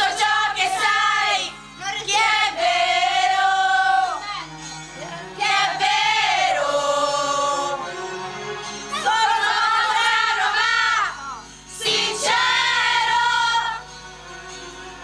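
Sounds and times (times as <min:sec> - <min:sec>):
girls singing together: 0:00.0 - 0:04.2, 0:05.0 - 0:07.8, 0:08.9 - 0:13.9.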